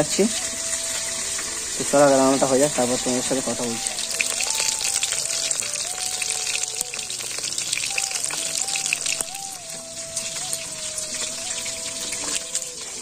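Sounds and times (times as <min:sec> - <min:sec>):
fish sizzling in hot oil: 0:00.0 - 0:13.0
thin melody: 0:00.0 - 0:13.0.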